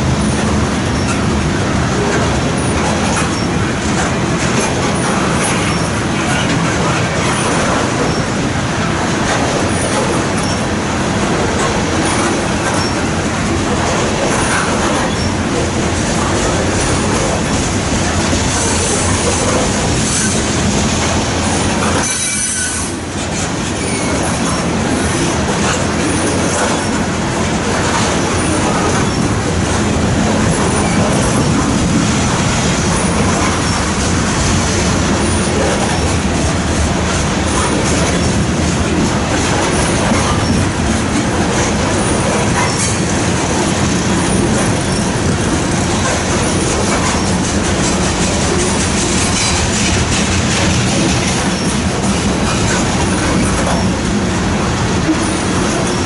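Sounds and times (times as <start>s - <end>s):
steel wheels clattering on rails: 0.0s - 56.0s.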